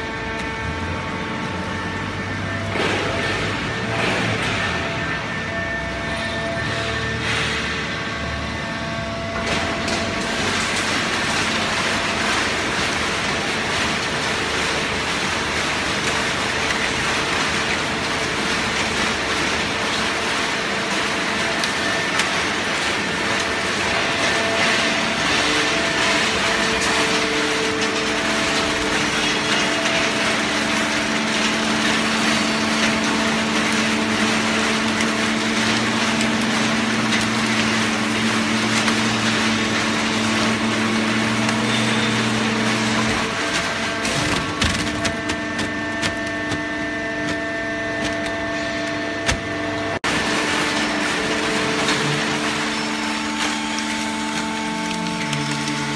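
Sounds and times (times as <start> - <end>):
hydraulic baler machine hum: 0.0 - 55.9.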